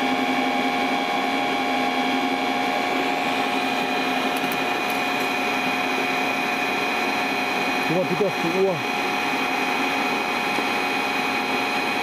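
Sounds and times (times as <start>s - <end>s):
motor-generator humming and whining: 0.0s - 12.0s.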